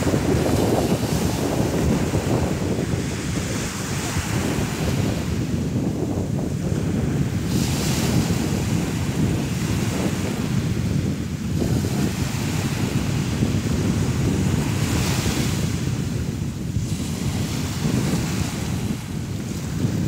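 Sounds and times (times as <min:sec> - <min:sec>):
small waves breaking on sand: 0:00.0 - 0:20.0
wind buffeting microphone: 0:00.0 - 0:20.0.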